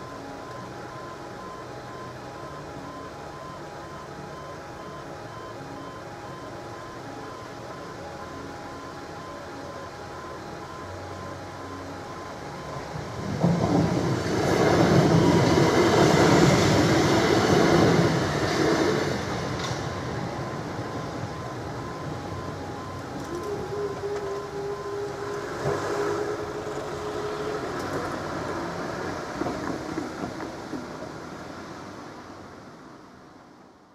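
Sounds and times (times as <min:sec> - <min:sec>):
steady hum: 0:00.0 - 0:29.5
two-tone crossing alarm: 0:00.0 - 0:31.1
electric train passing: 0:00.0 - 0:33.9.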